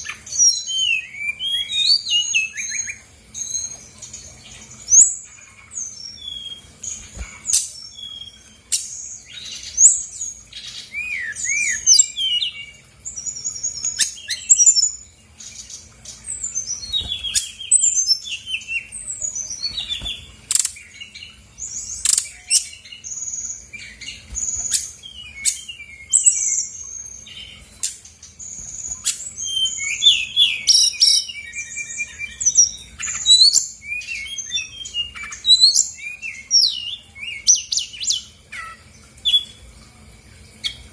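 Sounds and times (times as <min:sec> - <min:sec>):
bird singing whistles and trills: 0:00.0 - 0:39.6.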